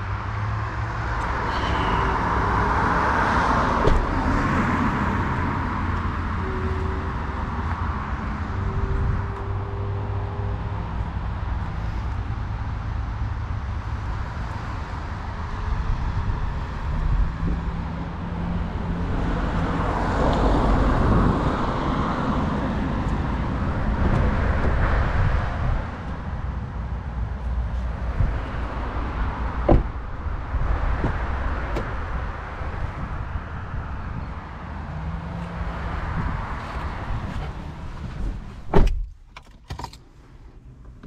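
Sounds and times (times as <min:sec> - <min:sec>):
car road and drive rumble: 0:00.0 - 0:41.0.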